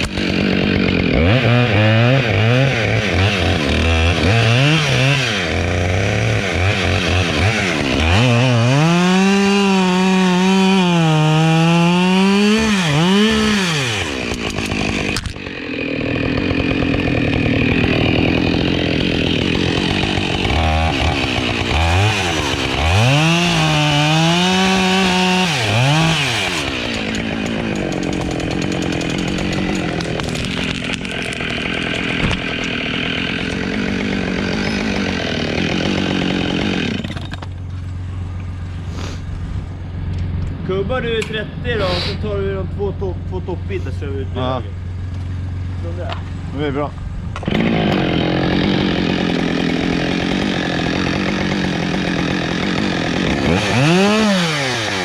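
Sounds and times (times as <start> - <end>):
chainsaw revving: 0.0 - 37.6, 45.8 - 55.0.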